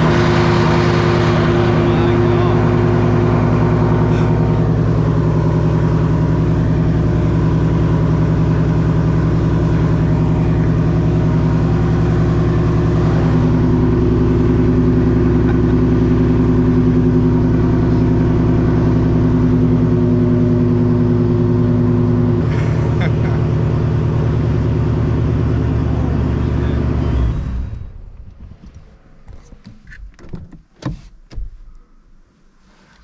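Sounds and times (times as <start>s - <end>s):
car engine idling: 0.0s - 29.8s.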